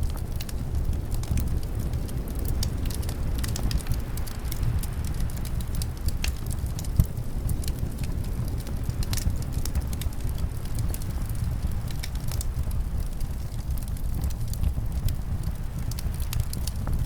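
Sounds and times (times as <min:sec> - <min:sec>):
low rumble of wind: 0:00.0 - 0:17.0
wood fire crackling and popping: 0:00.0 - 0:17.0.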